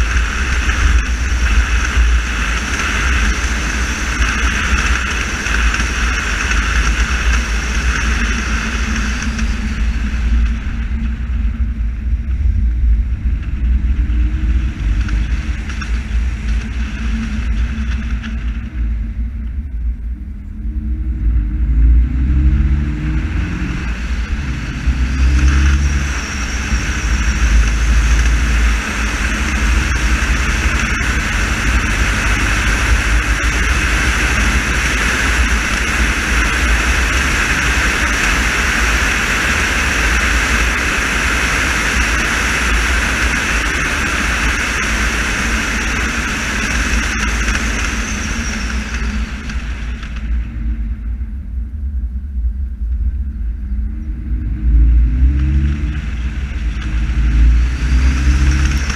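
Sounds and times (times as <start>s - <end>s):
tyre noise on wet road: 0.0s - 19.7s, 21.2s - 51.1s, 53.8s - 58.9s
car engine accelerating: 0.0s - 58.9s.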